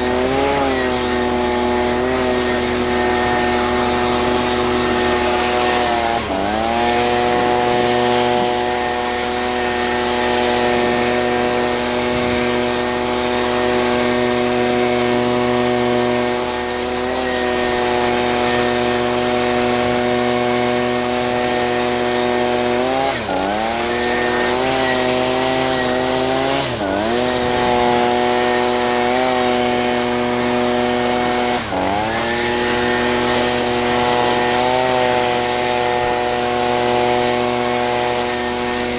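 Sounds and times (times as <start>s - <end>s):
leaf blower engine running: 0.0s - 38.9s.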